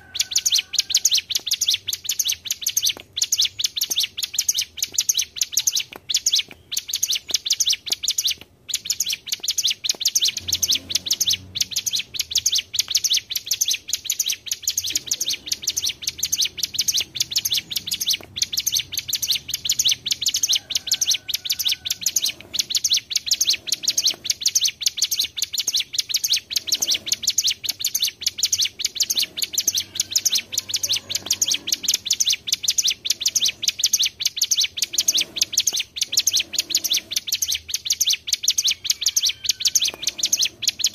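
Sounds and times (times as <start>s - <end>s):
songbirds singing fast high trill: 0.0s - 40.9s.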